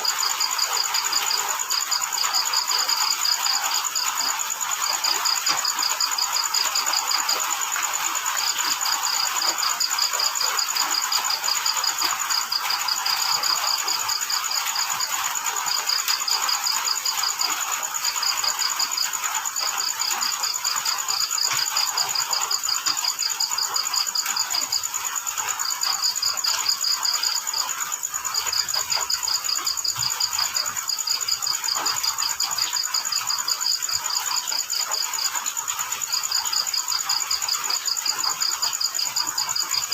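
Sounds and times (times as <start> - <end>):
cricket chirping in pulses: 0.0 - 39.9
cricket high-pitched trill: 0.0 - 39.9.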